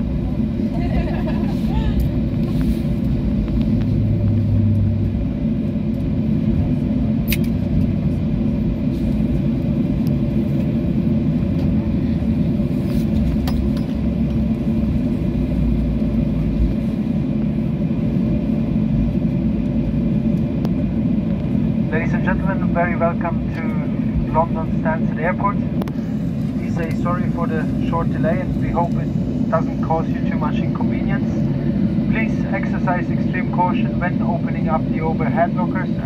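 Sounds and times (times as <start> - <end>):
jet engine rumble in cabin: 0.0 - 36.0.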